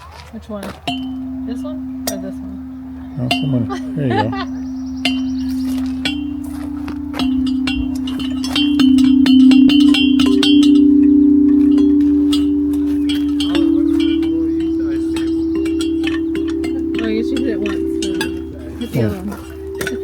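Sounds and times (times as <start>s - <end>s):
metal chimes ringing: 0.8s - 20.0s.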